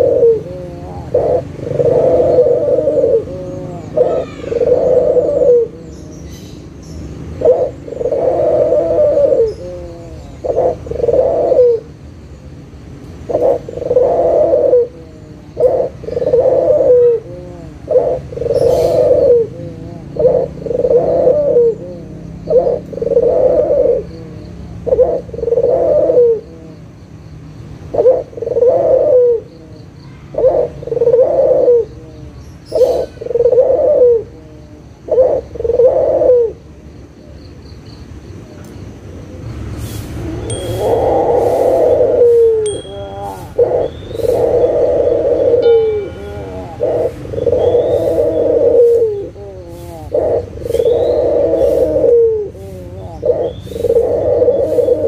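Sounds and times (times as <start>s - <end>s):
dove cooing: 0.0s - 12.0s, 13.2s - 27.0s, 27.8s - 37.4s, 39.3s - 55.0s.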